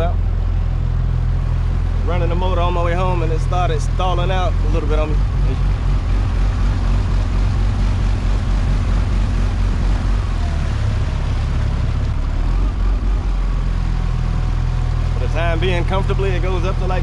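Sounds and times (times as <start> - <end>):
outboard motor puttering: 0.0 - 17.0.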